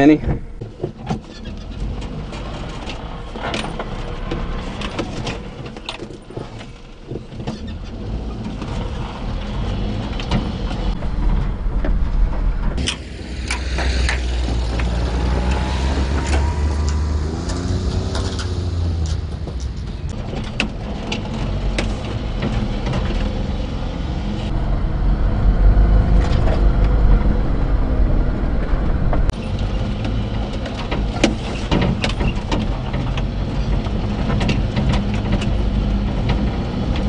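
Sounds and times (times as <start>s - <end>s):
cab rattling and knocking: 0.0s - 24.4s, 29.1s - 37.0s
truck engine pulling: 0.0s - 37.0s.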